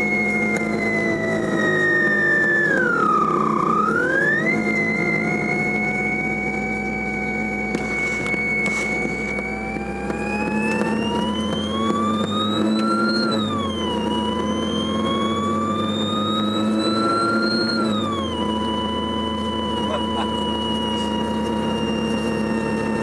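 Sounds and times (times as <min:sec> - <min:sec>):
car radio whine: 0:00.0 - 0:23.0
engine hum: 0:00.0 - 0:23.0.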